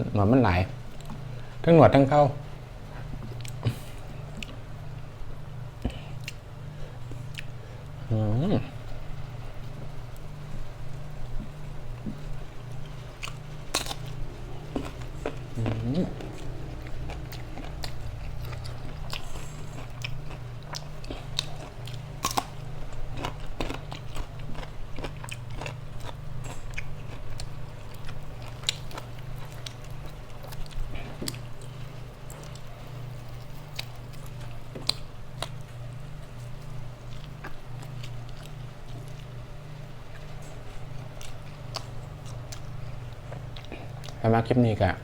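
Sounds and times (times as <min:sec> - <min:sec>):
steady low hum: 0:00.0 - 0:45.0
person chewing food: 0:02.9 - 0:05.1, 0:05.8 - 0:08.0, 0:08.8 - 0:44.2.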